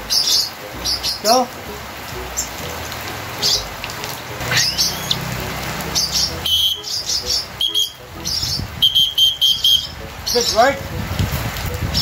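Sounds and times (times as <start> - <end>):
lovebirds chirping: 0.0 - 11.1.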